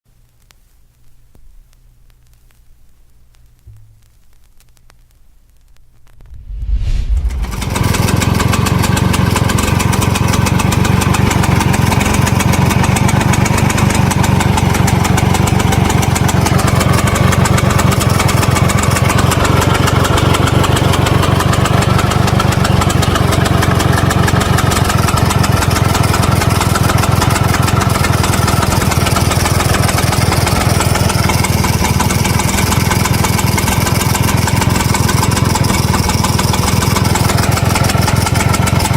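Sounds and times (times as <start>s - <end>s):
engine idle rattle: 7.2s - 38.9s
scooter engine starting and idling: 7.4s - 38.9s.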